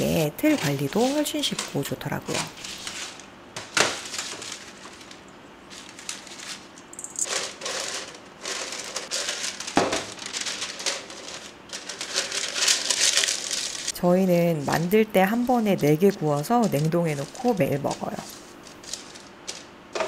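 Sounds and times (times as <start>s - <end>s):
parchment paper rustling and crinkling: 0.0s - 20.0s.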